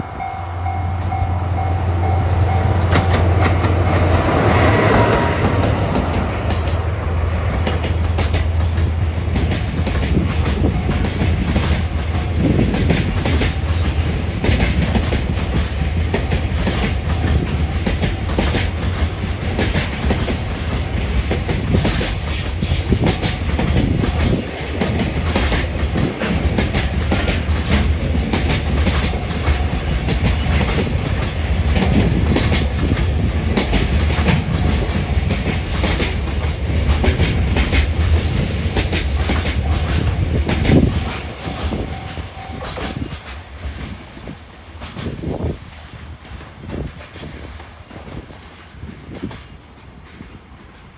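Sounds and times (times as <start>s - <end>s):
freight train rumble: 0.0s - 50.9s
train wheels clacking over rail joints: 2.7s - 45.6s.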